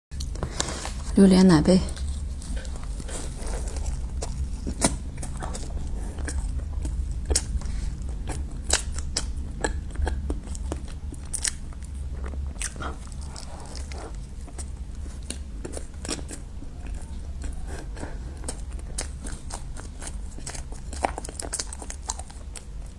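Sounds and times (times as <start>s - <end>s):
mouth biting and chewing: 1.9s - 22.9s.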